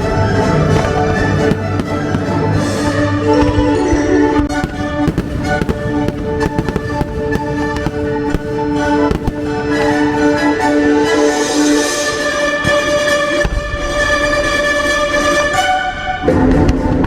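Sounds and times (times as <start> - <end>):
fireworks bangs: 0.0 - 17.0
orchestral soundtrack: 0.0 - 17.0.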